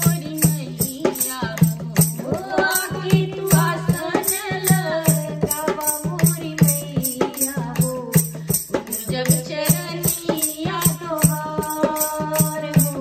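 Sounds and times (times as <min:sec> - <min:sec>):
dholak drum beat: 0:00.0 - 0:13.0
women singing devotional song: 0:00.0 - 0:13.0.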